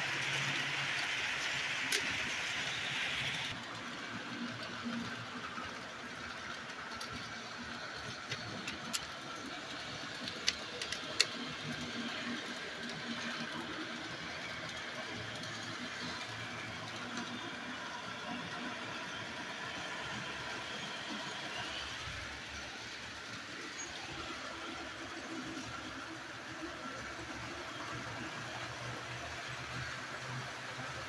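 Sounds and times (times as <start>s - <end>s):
model train motor whirring: 0.0s - 31.0s.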